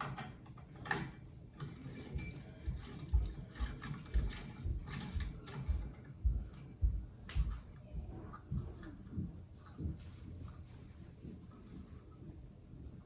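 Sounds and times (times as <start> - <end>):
rustling and clicks of handling: 0.0 - 13.0
footsteps going up stairs: 2.1 - 13.0.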